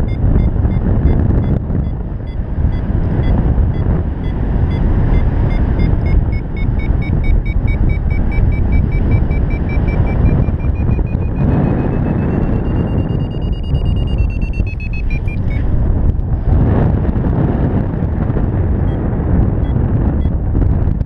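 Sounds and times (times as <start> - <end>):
variometer beeping: 0.0 - 16.1, 18.3 - 20.4
wind buffeting microphone: 0.0 - 21.0.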